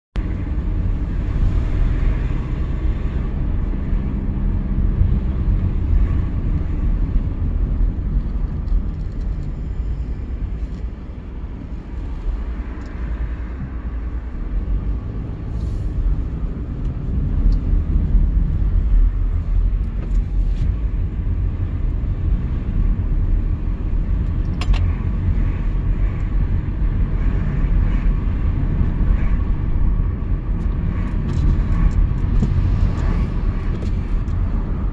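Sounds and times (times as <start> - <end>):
car engine and tyre rumble: 0.2 - 34.9.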